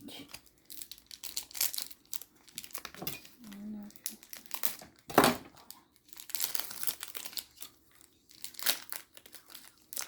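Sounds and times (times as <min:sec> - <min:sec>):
foil wrappers crinkling: 0:00.0 - 0:10.0
foil wrapper ripping: 0:00.4 - 0:10.0.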